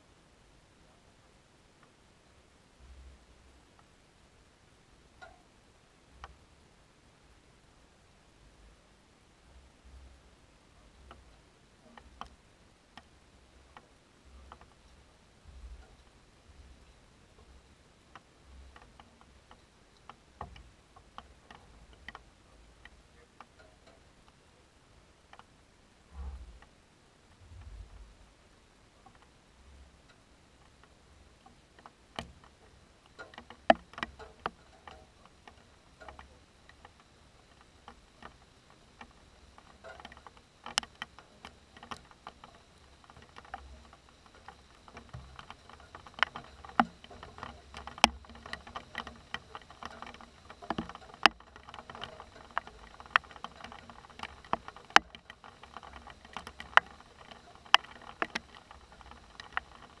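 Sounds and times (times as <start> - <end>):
raindrops ticking on hard surface: 0.8 - 60.0.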